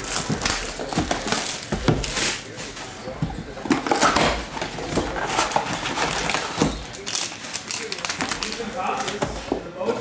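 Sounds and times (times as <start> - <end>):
foil packs rustling: 0.0 - 10.0.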